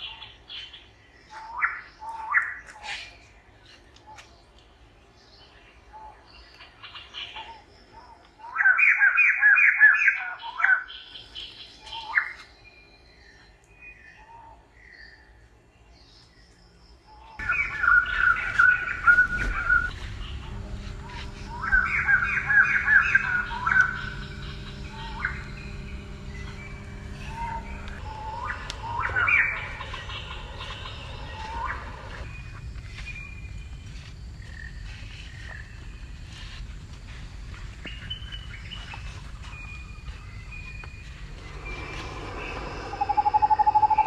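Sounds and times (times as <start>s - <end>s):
bird chirping: 0.0s - 36.5s, 37.8s - 44.0s
outdoor background noise: 0.0s - 44.0s.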